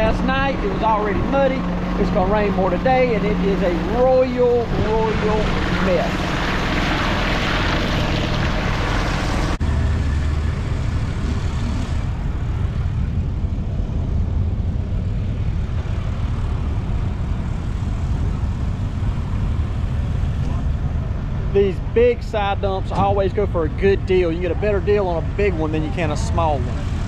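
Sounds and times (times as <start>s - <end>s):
low hum: 0.0s - 27.0s
steady low rumble: 0.0s - 27.0s
utility cart driving over mud: 0.0s - 27.0s.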